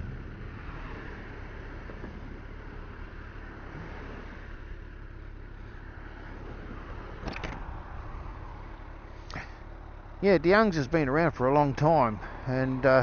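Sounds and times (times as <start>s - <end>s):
vehicle road noise rumble: 0.0s - 13.0s.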